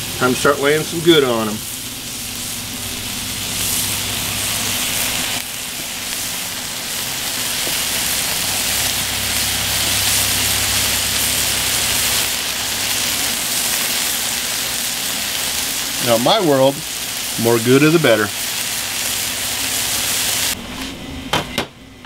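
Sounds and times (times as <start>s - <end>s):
burger patties sizzling: 0.0s - 20.6s.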